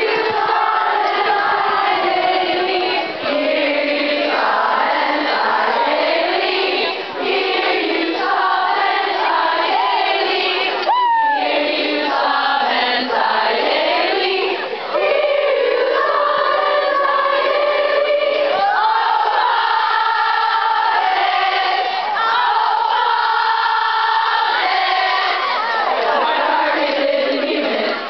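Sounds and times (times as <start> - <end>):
crowd of women singing in unison: 0.0 - 28.0.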